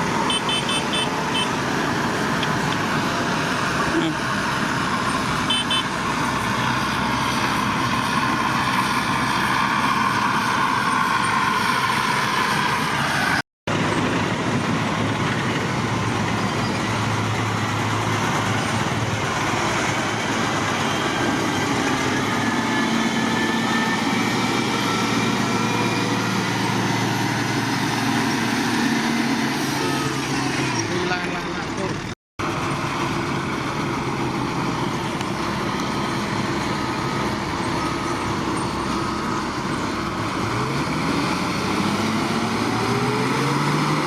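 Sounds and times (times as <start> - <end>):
diesel construction machinery running: 0.0 - 44.0.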